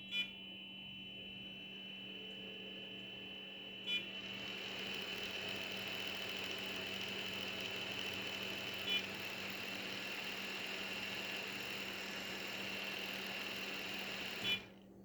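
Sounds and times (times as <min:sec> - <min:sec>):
blower fan running: 0:01.6 - 0:15.0.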